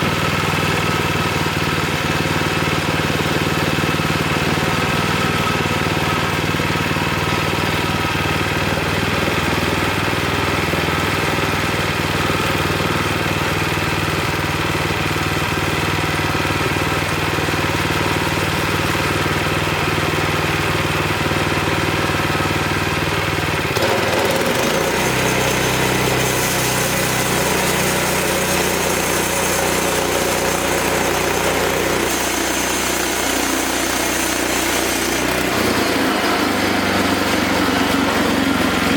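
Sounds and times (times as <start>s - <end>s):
sawmill gas engine running: 0.0s - 38.9s.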